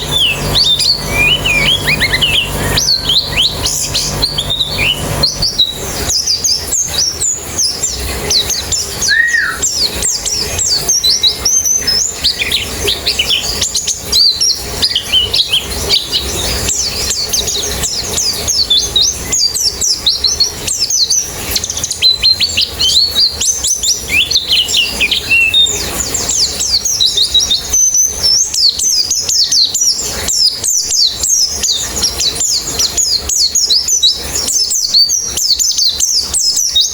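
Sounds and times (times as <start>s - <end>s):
birds chirping and twittering: 0.0s - 36.9s.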